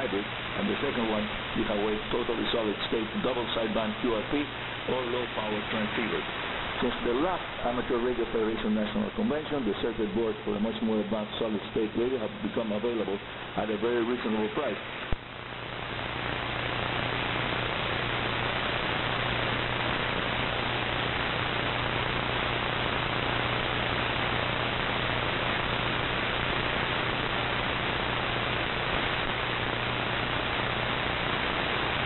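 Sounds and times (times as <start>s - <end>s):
shortwave radio static and hiss: 0.0s - 32.0s.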